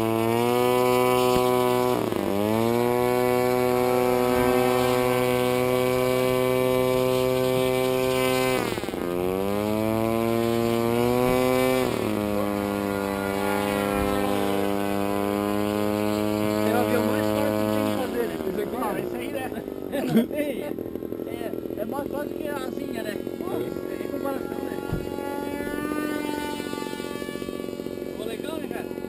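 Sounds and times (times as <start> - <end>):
model airplane motor whine: 0.0 - 29.0.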